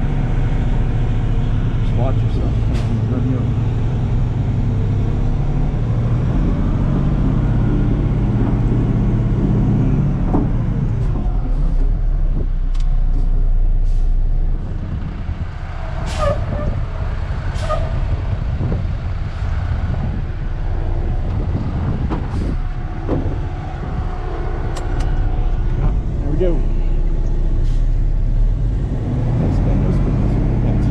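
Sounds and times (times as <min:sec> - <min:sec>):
diesel truck engine running: 0:00.0 - 0:30.9.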